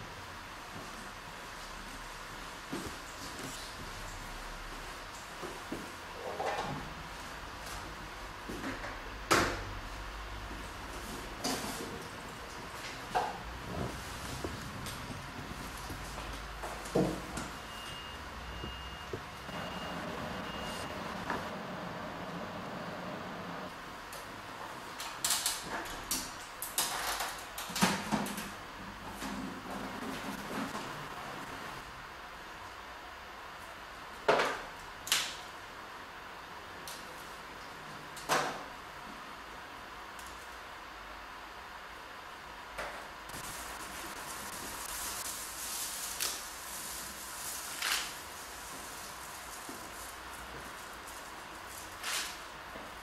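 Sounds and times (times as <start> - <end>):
low steady hiss: 0.0 - 53.0.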